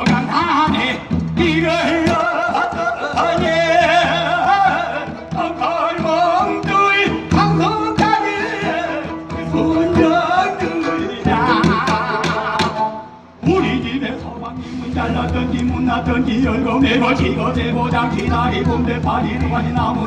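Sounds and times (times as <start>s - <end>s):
folk singing with vibrato: 0.0s - 20.0s
plucked long-necked lute: 1.6s - 19.9s.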